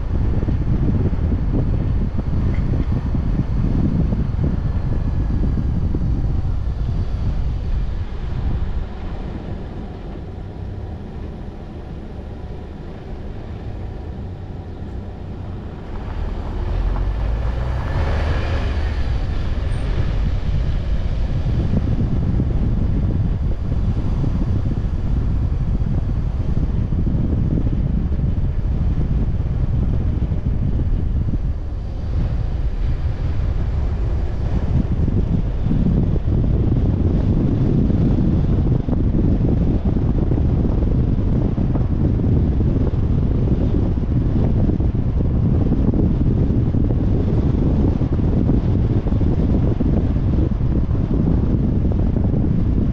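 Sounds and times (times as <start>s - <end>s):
car road and engine rumble: 0.0s - 52.9s
wind buffeting microphone: 0.0s - 52.9s.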